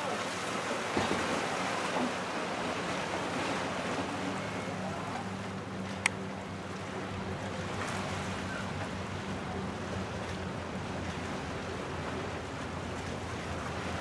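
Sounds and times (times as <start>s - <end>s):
choppy water washing: 0.0s - 14.0s
motorboat engine hum: 0.0s - 14.0s.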